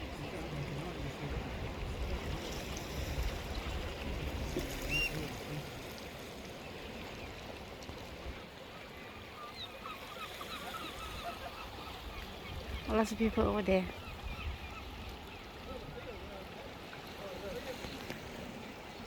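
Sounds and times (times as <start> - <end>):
sea water lapping on shore: 0.0 - 19.0.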